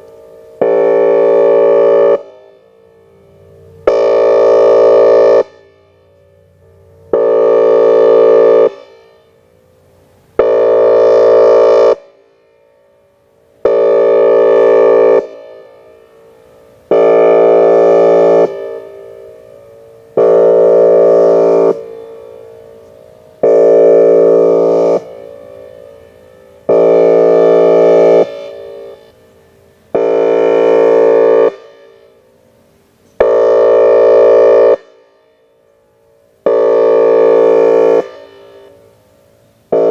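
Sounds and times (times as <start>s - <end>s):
warning siren horn blasts: 0.0s - 39.9s.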